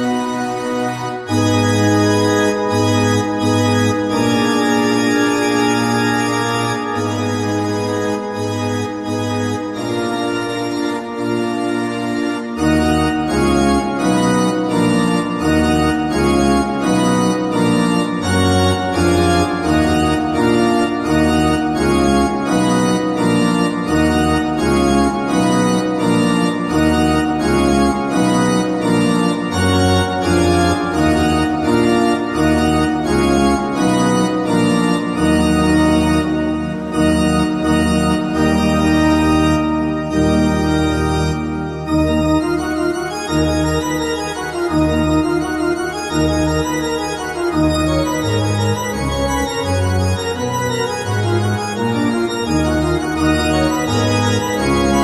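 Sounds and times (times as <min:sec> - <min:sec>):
organ-like keyboard chords: 0:00.0 - 0:55.0.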